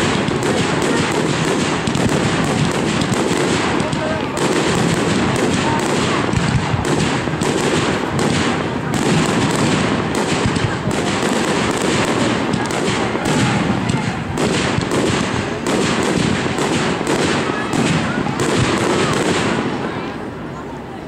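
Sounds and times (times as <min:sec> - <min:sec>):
firework shells bursting: 0:00.0 - 0:19.9
fireworks crackling: 0:00.0 - 0:21.0.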